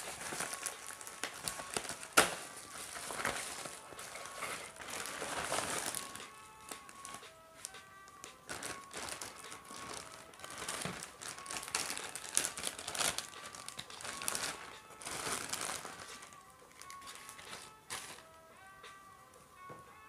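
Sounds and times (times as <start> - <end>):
plastic bag crinkling: 0.0 - 18.3.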